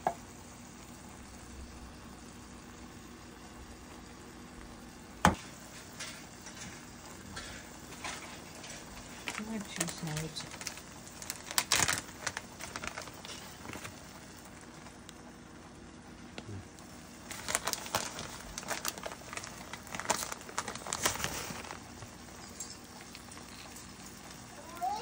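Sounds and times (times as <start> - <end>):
crackling in frying pan: 0.0 - 25.0.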